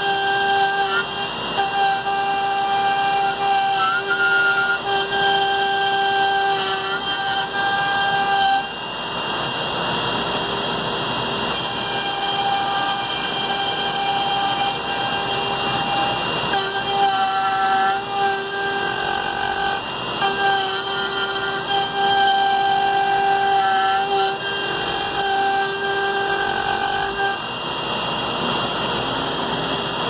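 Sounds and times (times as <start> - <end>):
machine motors whining: 0.0 - 30.0.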